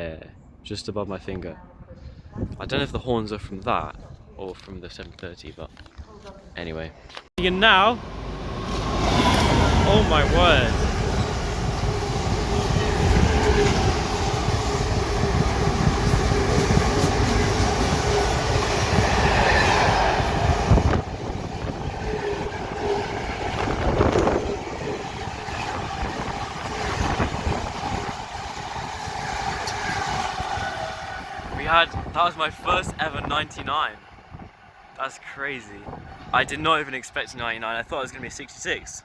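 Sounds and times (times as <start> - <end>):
freight train passing: 7.4 - 39.0.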